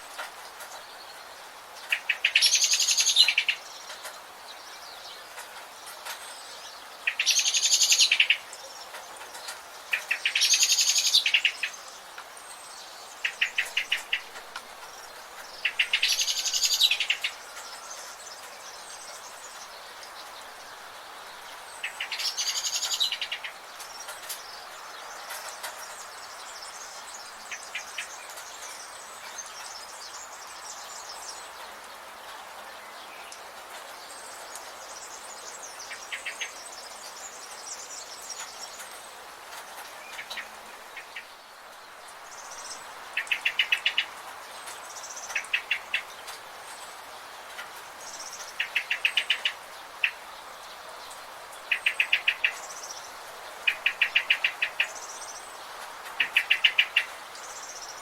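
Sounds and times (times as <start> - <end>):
forest birds trilling and chirping: 0.0 - 58.0
steady background hiss: 0.0 - 58.0.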